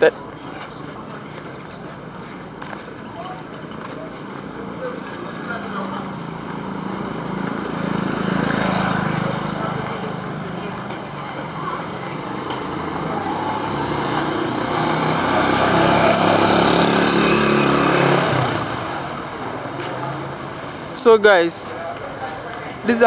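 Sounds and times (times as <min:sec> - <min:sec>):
vehicle engine running: 0:00.0 - 0:21.0
outdoor street noise: 0:00.0 - 0:23.0.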